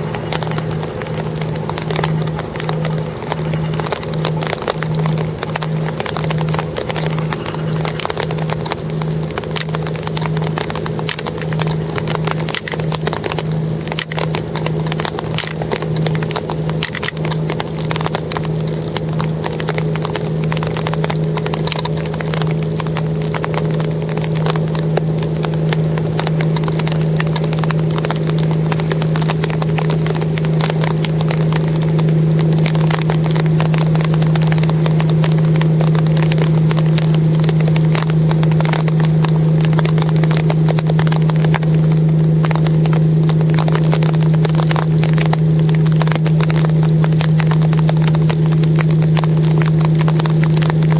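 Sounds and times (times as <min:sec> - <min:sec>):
boat engine droning: 0:00.0 - 0:50.9
raindrops tapping on boat: 0:00.0 - 0:50.9.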